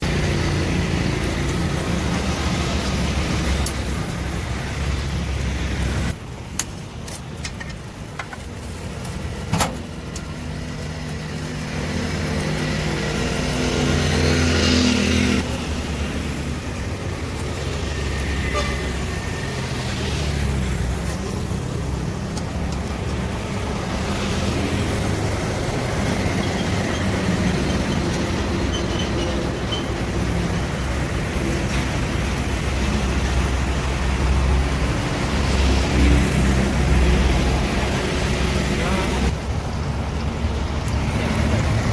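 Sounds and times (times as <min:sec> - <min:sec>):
low rumble of traffic: 0:00.0 - 0:41.9.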